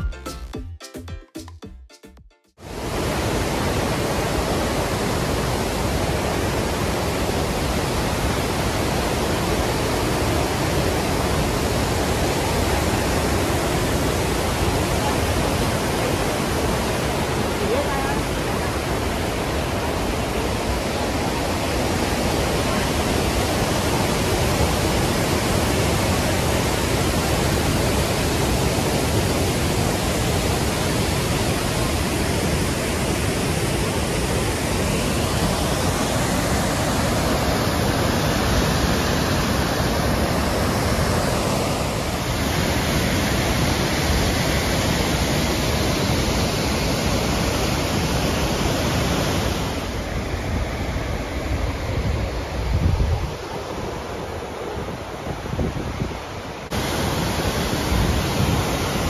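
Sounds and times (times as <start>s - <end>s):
waterfall roaring: 2.6s - 59.0s.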